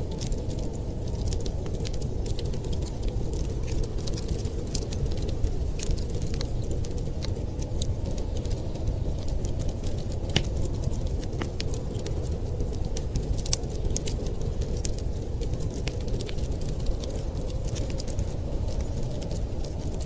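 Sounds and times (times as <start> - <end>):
wind rumbling: 0.0 - 20.0
wood fire crackling: 0.0 - 20.0.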